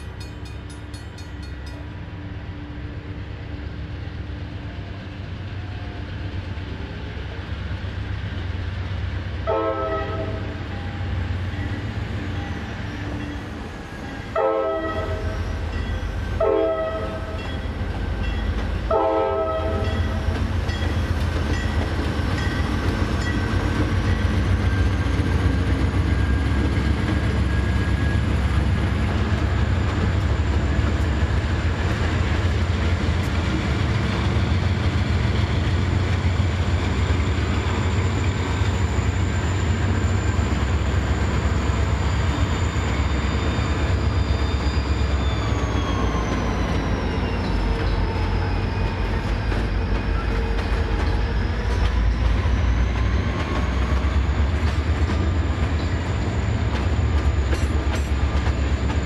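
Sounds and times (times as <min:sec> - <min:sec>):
diesel locomotives rumbling: 0:00.0 - 0:59.0.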